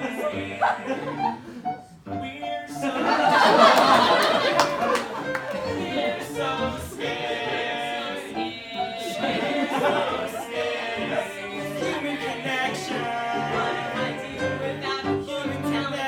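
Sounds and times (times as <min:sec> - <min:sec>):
voices singing together: 0:00.0 - 0:16.0.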